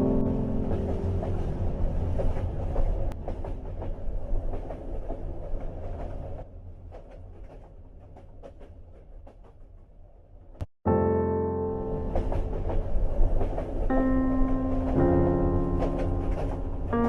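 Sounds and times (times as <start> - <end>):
wheels clacking over rail joints: 0.0 - 9.7, 12.0 - 17.0
train rumbling on rails: 0.0 - 10.5, 11.6 - 17.0.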